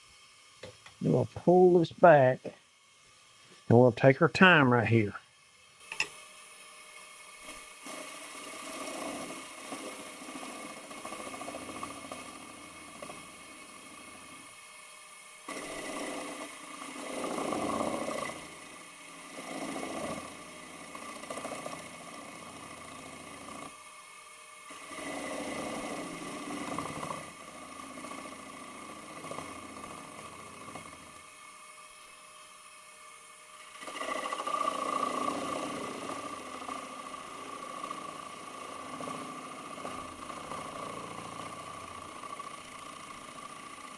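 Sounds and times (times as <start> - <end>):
wood lathe whining: 5.5 - 43.9.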